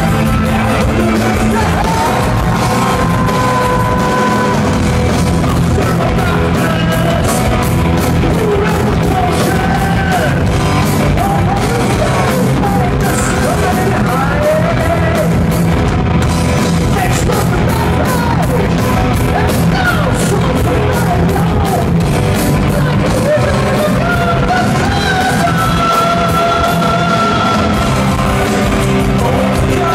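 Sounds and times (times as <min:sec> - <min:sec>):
bass guitar: 0:00.0 - 0:29.9
distorted guitars: 0:00.0 - 0:29.9
fast steady drumbeat: 0:00.0 - 0:29.9.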